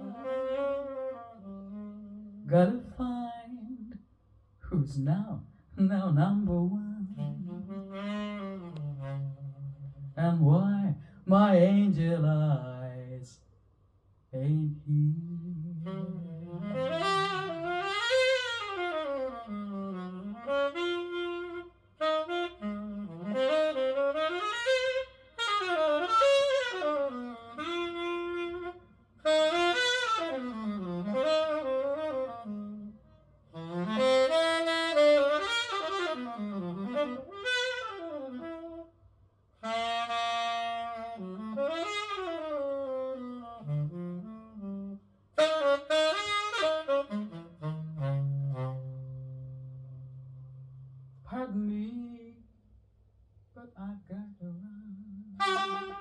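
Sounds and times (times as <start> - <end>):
saxophone solo: 0.0 - 3.9, 6.8 - 13.2, 14.6 - 52.2, 54.9 - 56.0.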